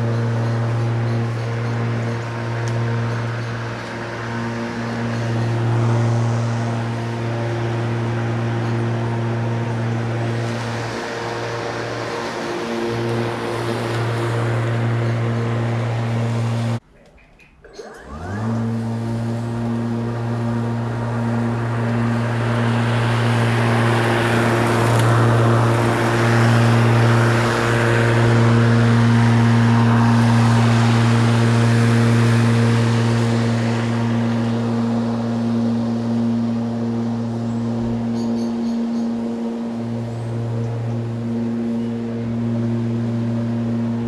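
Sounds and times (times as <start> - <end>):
grass cutting rushing noise: 0.0 - 16.8, 17.7 - 44.0
lawnmower motor and blade hum: 0.0 - 44.0.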